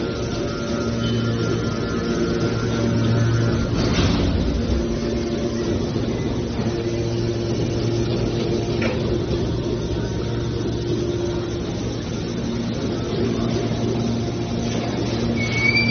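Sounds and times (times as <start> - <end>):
baler mechanical hum: 0.0 - 15.9.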